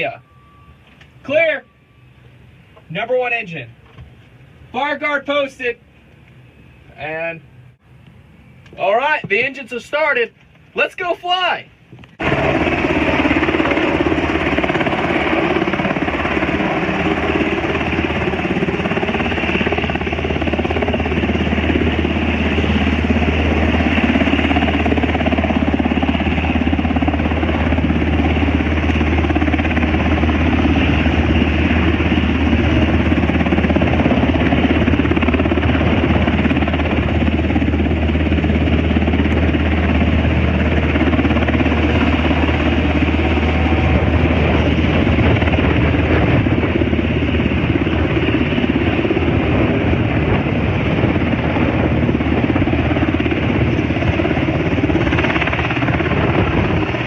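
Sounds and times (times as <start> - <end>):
helicopter rotors and engines: 0.0 - 57.0.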